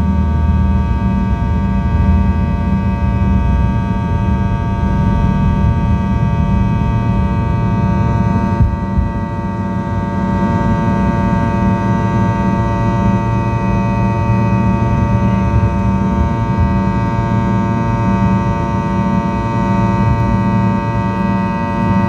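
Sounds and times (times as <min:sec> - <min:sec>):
jet airliner engines during takeoff: 0:00.0 - 0:22.0.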